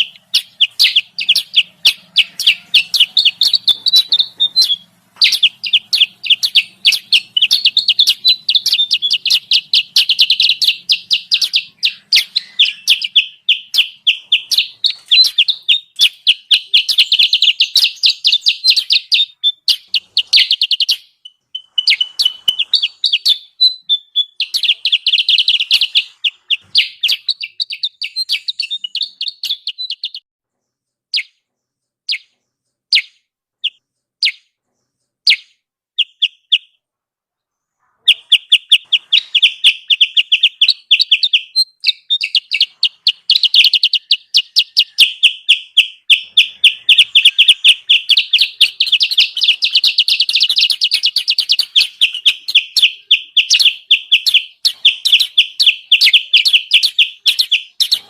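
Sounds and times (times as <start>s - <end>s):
bulbul lure call chirps: 0.0s - 30.2s, 38.1s - 58.0s.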